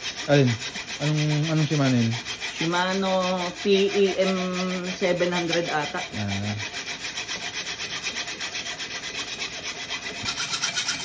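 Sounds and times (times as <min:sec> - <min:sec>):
hand saw cutting metal tube: 0:00.0 - 0:11.0.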